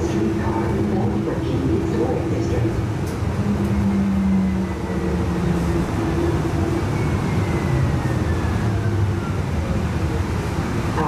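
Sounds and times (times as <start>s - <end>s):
streetcar rumble and hum: 0.0s - 11.0s.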